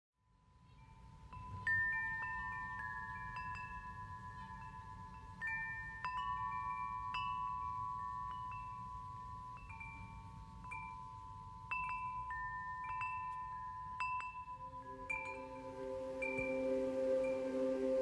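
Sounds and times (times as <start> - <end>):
wind chimes ringing: 0.4 - 18.0.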